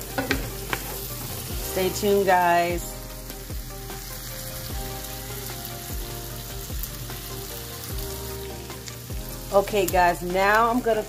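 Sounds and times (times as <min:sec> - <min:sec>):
butter sizzling in a skillet: 0:00.0 - 0:11.0.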